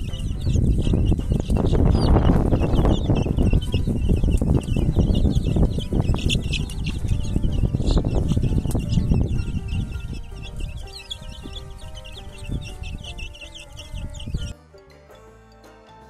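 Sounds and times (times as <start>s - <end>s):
chicks peeping: 0.0s - 14.6s.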